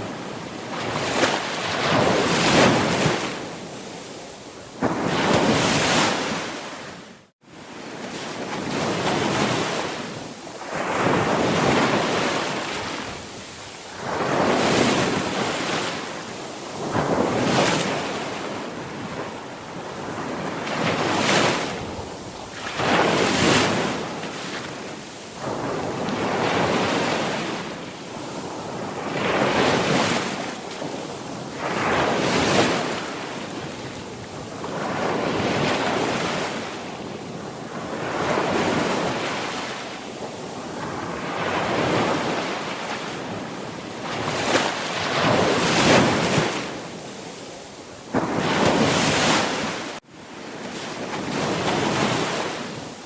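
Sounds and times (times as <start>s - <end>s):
sea waves breaking on shore: 0.0s - 53.0s.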